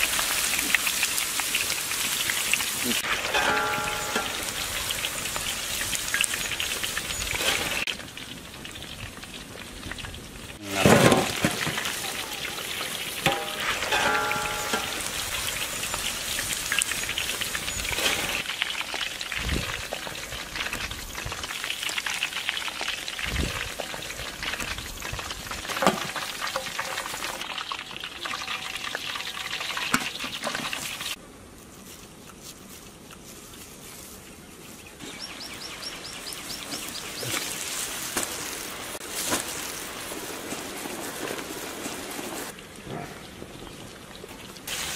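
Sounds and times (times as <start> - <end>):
hot oil bubbling and crackling: 0.0 - 31.2, 35.0 - 44.9.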